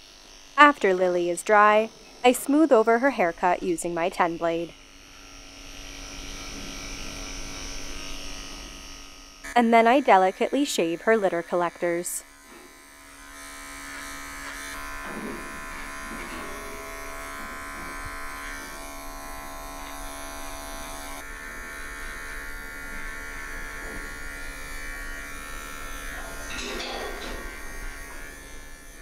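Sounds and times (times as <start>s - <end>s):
electric clippers buzzing: 0.0s - 29.0s.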